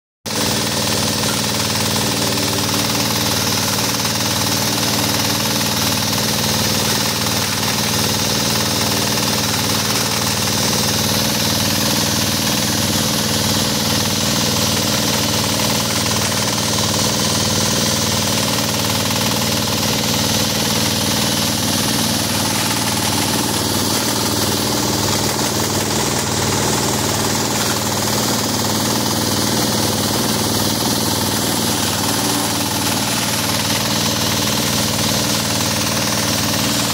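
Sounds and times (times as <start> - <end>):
diesel engine running under load: 0.3 - 36.9
forage chopper knocking: 0.3 - 36.9.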